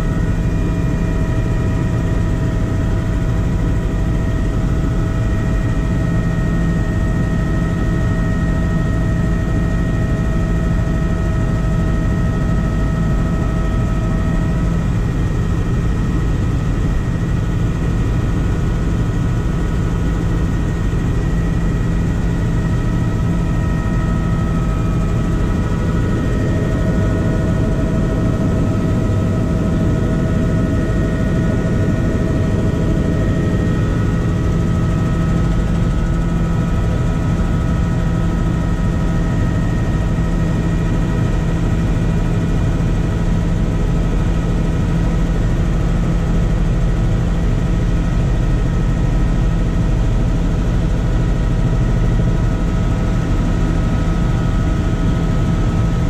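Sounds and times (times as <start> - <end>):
helicopter engine and rotor noise: 0.0 - 56.0.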